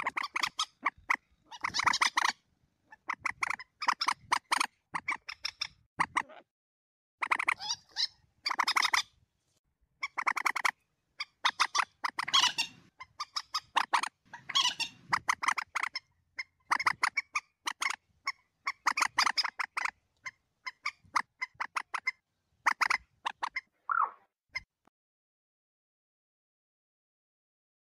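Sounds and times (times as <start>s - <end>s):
bird chattering calls: 0.0s - 6.4s, 7.2s - 9.1s, 10.0s - 24.2s.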